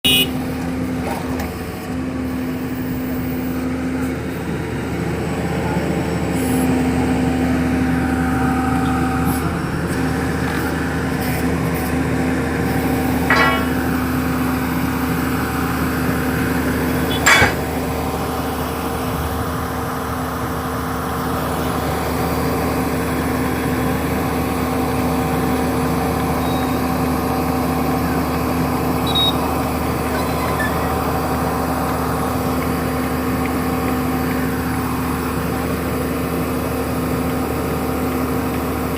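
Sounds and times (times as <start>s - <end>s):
drilling rig engine humming: 0.1s - 38.9s.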